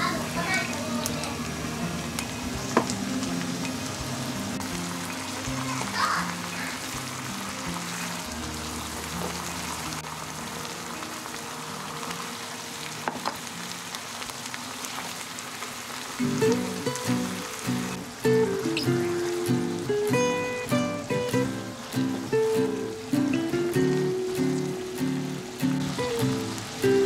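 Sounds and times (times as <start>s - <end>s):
soft background music: 0.0s - 15.3s, 16.2s - 27.0s
sauce sizzling and bubbling in pan: 0.0s - 27.0s.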